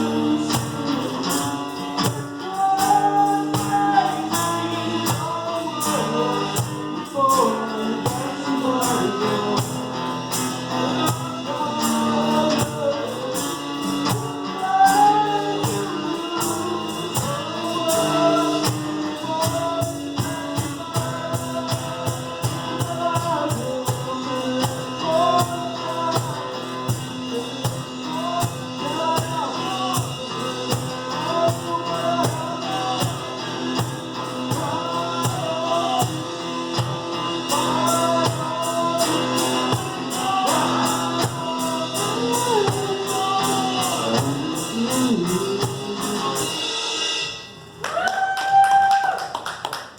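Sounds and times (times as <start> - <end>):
person singing: 0.0 - 46.9
acoustic instruments: 0.0 - 49.9
percussion beat: 0.0 - 49.9.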